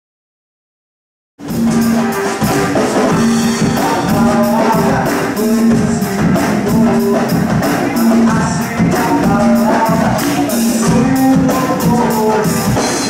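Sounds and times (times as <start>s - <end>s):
percussion-heavy band music: 1.4s - 13.0s.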